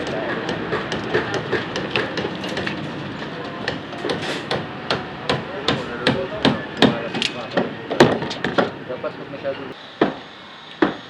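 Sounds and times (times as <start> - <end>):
hammers striking wood and nails: 0.0 - 8.8, 10.0 - 10.2, 10.8 - 11.0
work site noise: 0.0 - 11.0.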